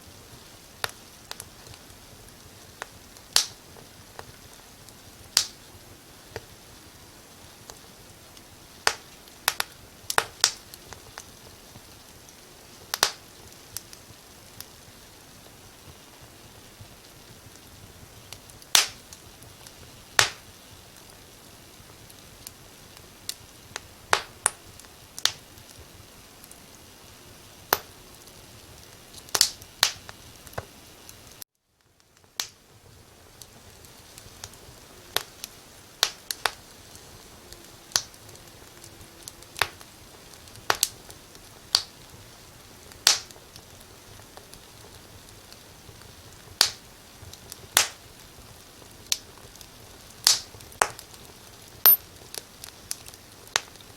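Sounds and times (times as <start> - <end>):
firewood crackling and popping: 0.0 - 53.9
soft fire hiss: 0.0 - 53.9.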